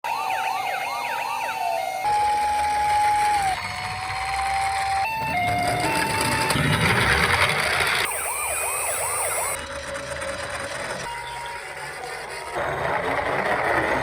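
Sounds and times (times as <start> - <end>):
electronic toy sirens wailing: 0.0 - 14.0.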